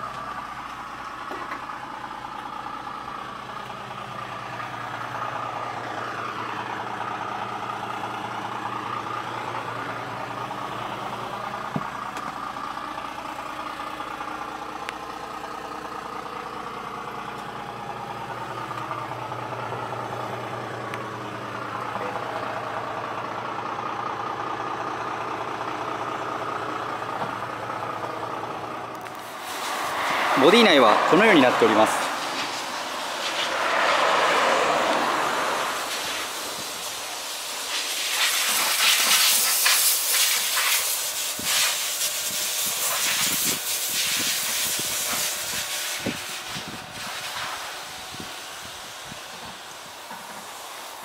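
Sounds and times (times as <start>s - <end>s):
diesel truck engine idling: 0.0s - 51.0s.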